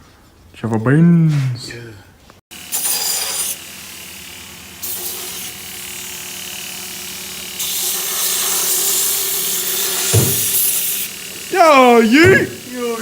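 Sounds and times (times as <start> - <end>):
power tool running: 2.5 - 13.0.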